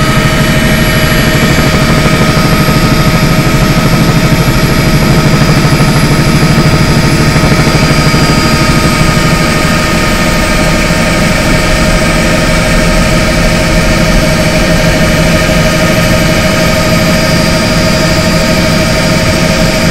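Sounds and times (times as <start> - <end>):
helicopter turbine and rotor drone: 0.0 - 19.9.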